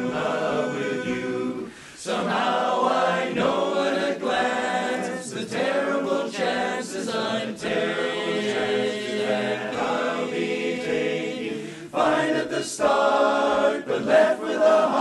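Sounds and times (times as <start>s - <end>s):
male choir singing a cappella: 0.0s - 15.0s.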